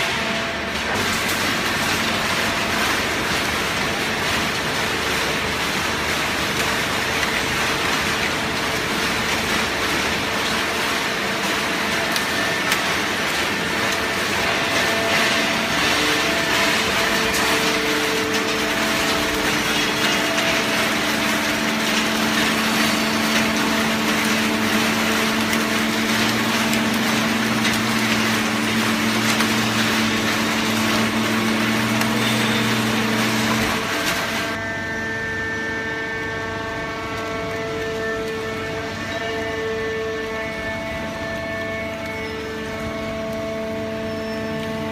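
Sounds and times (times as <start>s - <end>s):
baler machine hum: 0.0s - 44.9s
dense mechanical noise: 0.0s - 44.9s.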